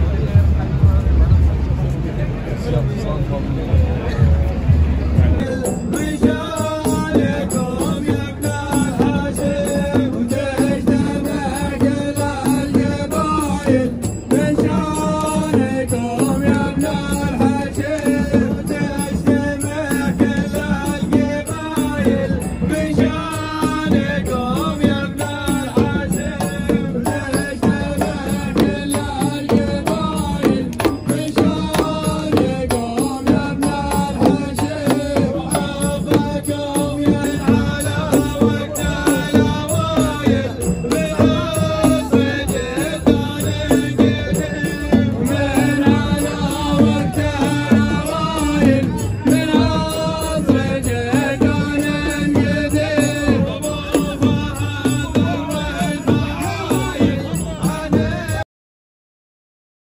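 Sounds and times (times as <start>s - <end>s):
frame drums: 3.6s - 58.4s
men chanting a folk song: 3.8s - 58.4s.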